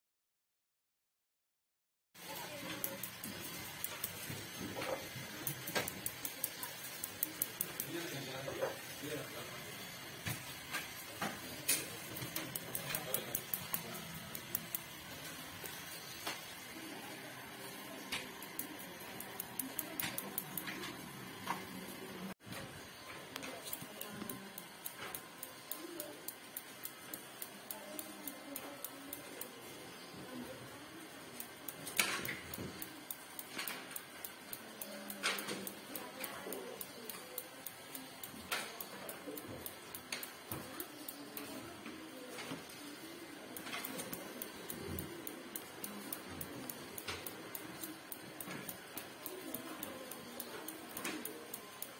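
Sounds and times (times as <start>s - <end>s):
spark igniter ticking rapidly: 2.2s - 51.9s.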